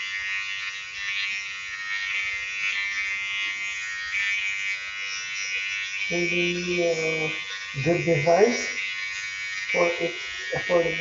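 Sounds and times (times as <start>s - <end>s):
hair trimmer buzzing: 0.0s - 11.0s.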